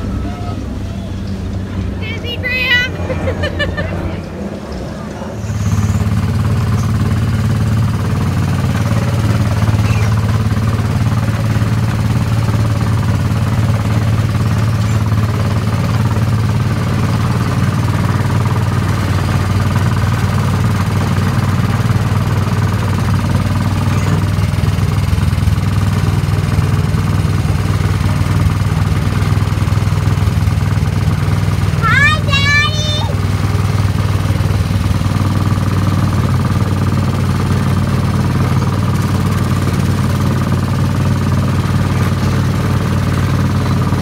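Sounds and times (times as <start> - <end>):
small engine low drone: 0.0 - 44.0.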